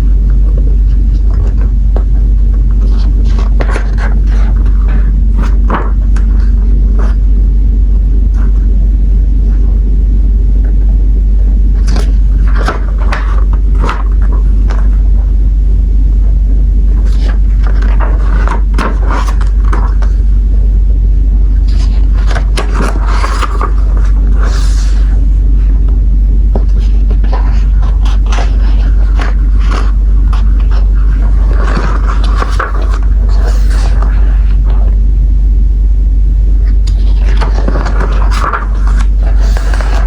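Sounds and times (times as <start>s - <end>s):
heavy low rumble: 0.0s - 40.0s.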